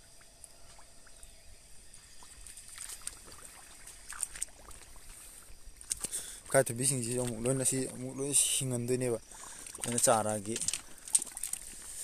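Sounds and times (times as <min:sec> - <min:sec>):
insects chirring: 0:00.0 - 0:12.0
splashing in shallow muddy water: 0:00.0 - 0:12.0.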